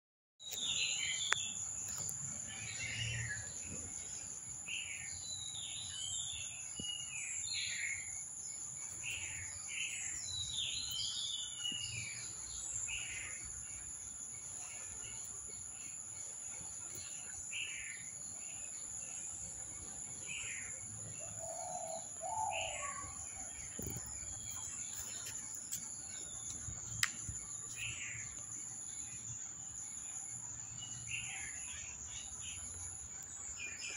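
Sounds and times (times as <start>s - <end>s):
birds chirping: 0.4s - 33.9s.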